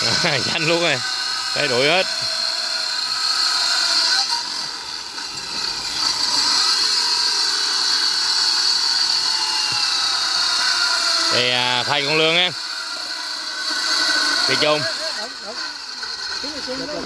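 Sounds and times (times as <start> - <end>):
circular saw cutting wood: 0.0 - 17.0.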